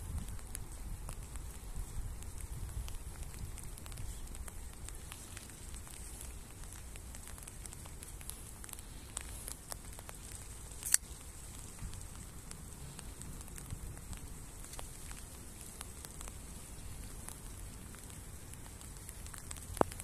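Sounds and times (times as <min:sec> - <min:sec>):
faint ticking and crackling: 0:00.0 - 0:20.0.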